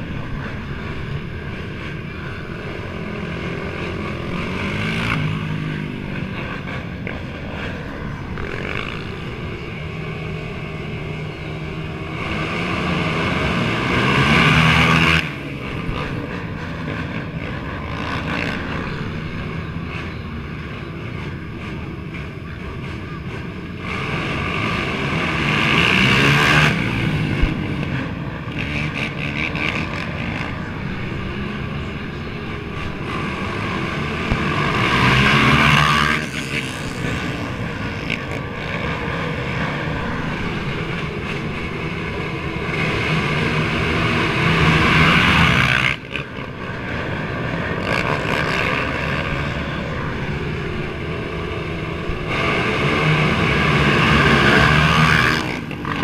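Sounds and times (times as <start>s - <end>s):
atv engines revving: 0.0s - 56.0s.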